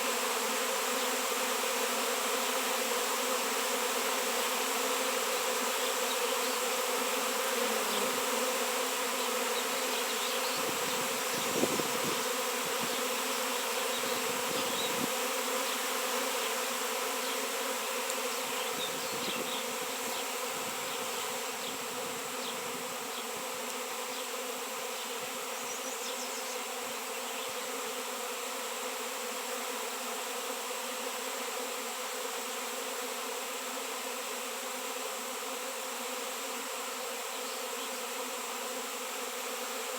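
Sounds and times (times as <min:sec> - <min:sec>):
honey bees buzzing: 0:00.0 - 0:39.9.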